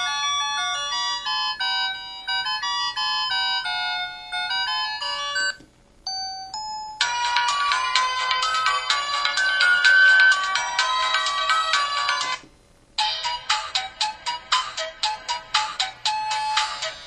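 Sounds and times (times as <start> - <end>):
polyphonic ringtone melody: 0.0 - 12.4, 13.0 - 17.0.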